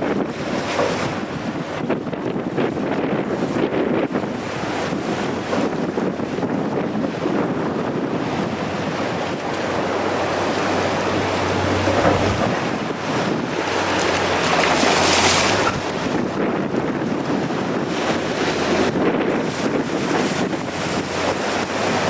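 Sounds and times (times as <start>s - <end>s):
ocean surf: 0.0s - 22.0s
wind buffeting the microphone: 0.0s - 22.0s.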